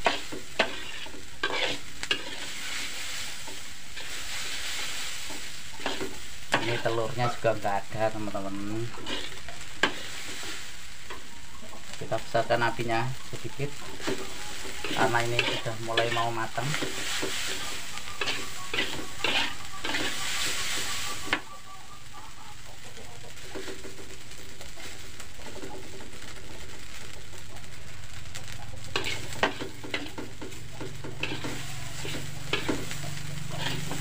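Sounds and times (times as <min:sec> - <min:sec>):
metal spatula scraping wok: 0:00.0 - 0:21.6, 0:23.3 - 0:27.1, 0:28.8 - 0:34.0
rice sizzling in a wok: 0:00.0 - 0:34.0.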